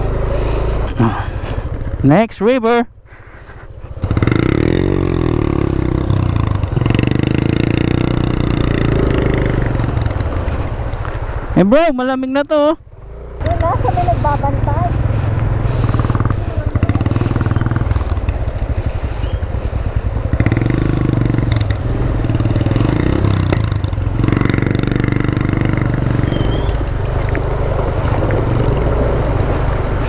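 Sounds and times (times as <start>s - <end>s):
small motorcycle engine running: 0.0s - 10.6s, 13.0s - 30.0s.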